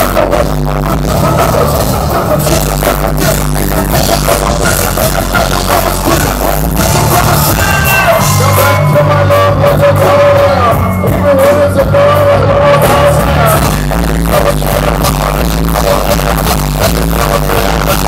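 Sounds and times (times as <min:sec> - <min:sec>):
live band with bass and drums: 0:00.0 - 0:18.0
man singing long held notes: 0:00.0 - 0:18.0.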